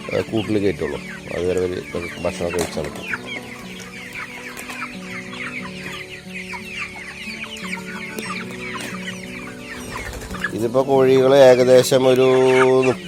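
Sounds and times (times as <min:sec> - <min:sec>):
chickens peeping and clucking: 0:00.0 - 0:13.0.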